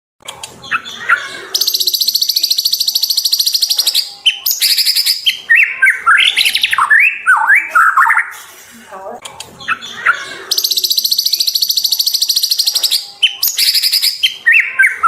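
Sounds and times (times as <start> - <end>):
bird singing: 0.6 - 8.3, 9.6 - 15.0.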